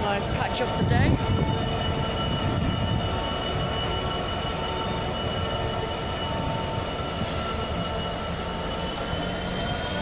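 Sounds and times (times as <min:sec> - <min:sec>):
locomotive heavy rumble: 0:00.0 - 0:10.0.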